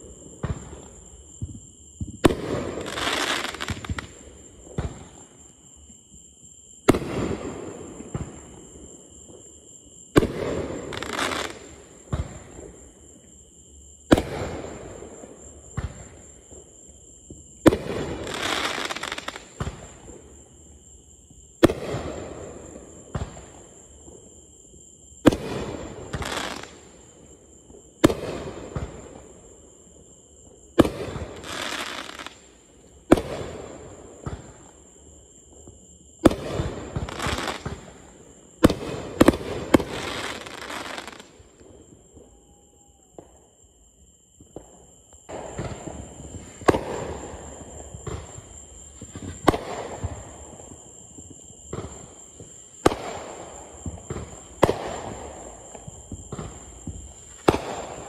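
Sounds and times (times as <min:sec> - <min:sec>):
fireworks bangs with hiss: 0:00.0 - 0:58.0.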